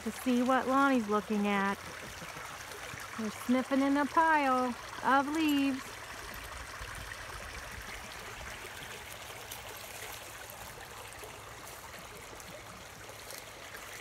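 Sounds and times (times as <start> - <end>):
creek water rushing over rocks: 0.0 - 14.0.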